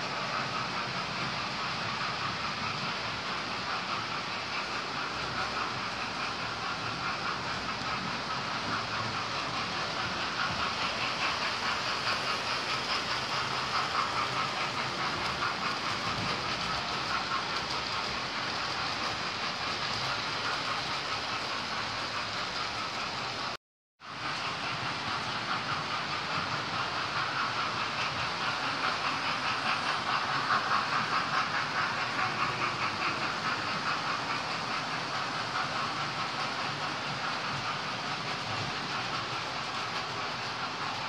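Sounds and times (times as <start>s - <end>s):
model train motors whirring: 0.0s - 41.0s
wheels clicking over rail joints: 0.1s - 41.0s.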